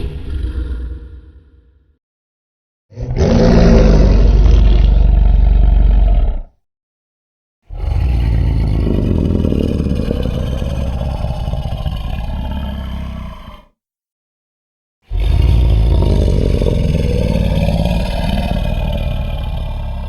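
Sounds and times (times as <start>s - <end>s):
deep monster roar: 0.0s - 1.6s, 2.9s - 6.6s, 7.7s - 13.7s, 15.1s - 20.0s.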